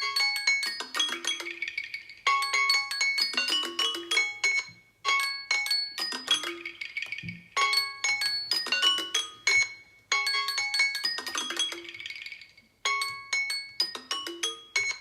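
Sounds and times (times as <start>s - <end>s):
marimba-like phone ringtone: 0.0s - 15.0s.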